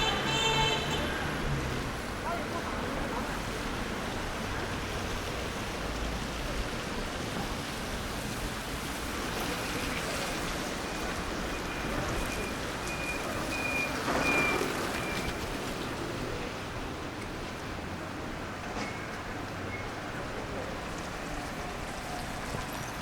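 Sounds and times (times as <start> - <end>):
traffic on wet pavement: 0.0 - 23.0.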